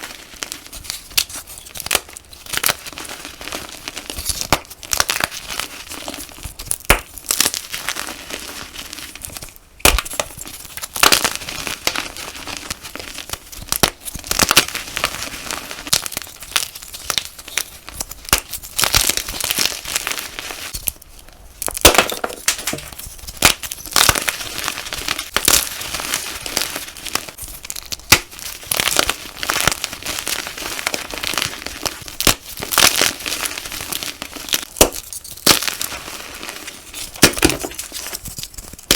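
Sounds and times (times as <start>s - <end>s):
chalk being crushed: 0.0s - 21.0s, 21.6s - 38.9s.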